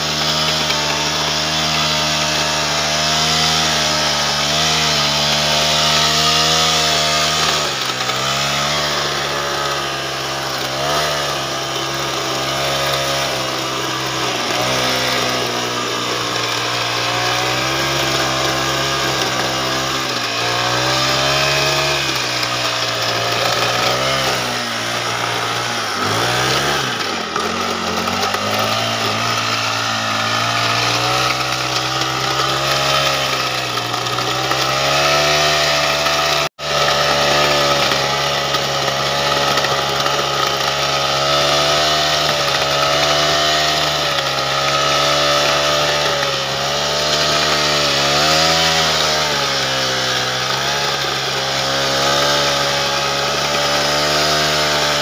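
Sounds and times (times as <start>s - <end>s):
small petrol engine high revs: 0.0s - 55.0s
tines churning soil: 0.0s - 55.0s.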